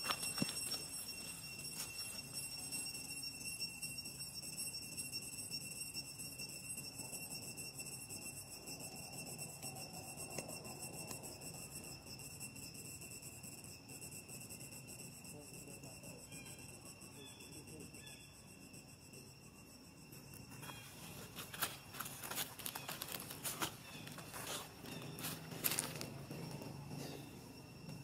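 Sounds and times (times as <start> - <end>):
insects singing: 0.0 - 28.0.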